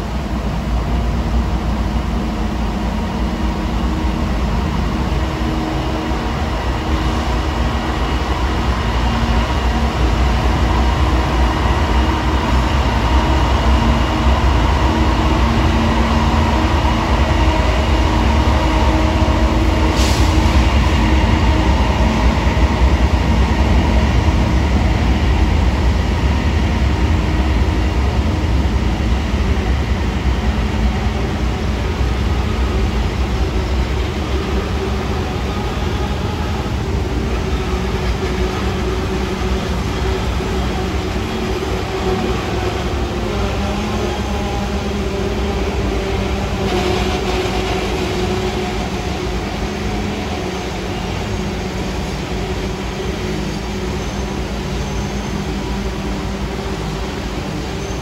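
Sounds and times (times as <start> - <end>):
freight train rumbling: 0.0 - 58.0.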